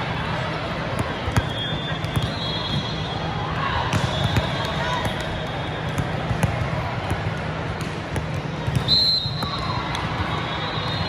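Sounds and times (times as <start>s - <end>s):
hubbub of voices: 0.0s - 11.0s.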